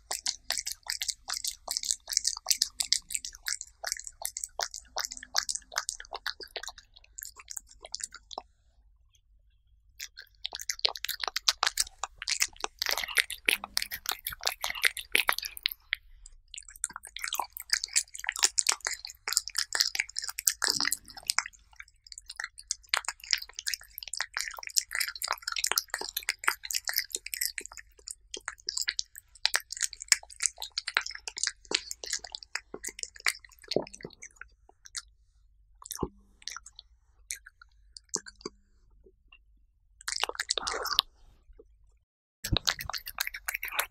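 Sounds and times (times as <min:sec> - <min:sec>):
cat chewing wetly: 0:00.0 - 0:08.6, 0:10.0 - 0:38.6, 0:40.0 - 0:41.4, 0:42.5 - 0:43.9.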